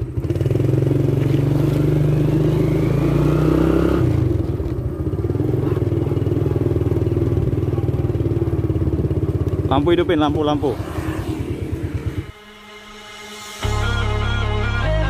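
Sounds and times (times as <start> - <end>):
motorcycle engine pulling away: 0.0 - 12.5.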